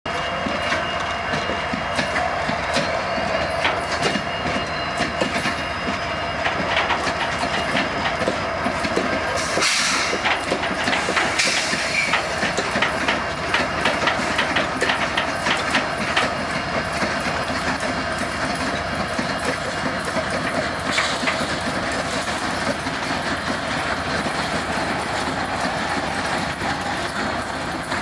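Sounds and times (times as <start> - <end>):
locomotive engines running: 0.1 - 28.0
wheels clacking over track: 0.1 - 28.0
wheels rumbling on rail: 0.1 - 28.0.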